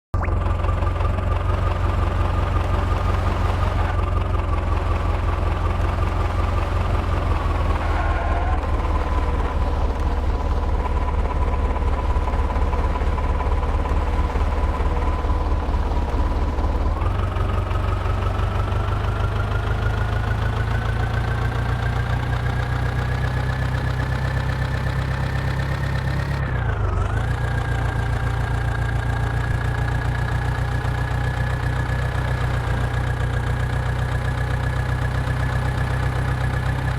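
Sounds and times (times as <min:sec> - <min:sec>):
tractor engine rumbling: 0:00.0 - 0:36.9.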